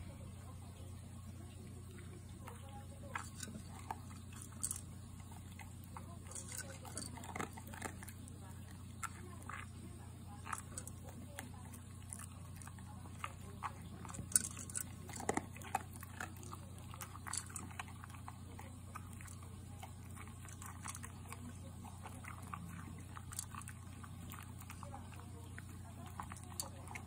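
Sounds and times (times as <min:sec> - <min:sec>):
low steady hum: 0:00.0 - 0:27.0
dog crunching food in bowl: 0:01.5 - 0:27.0.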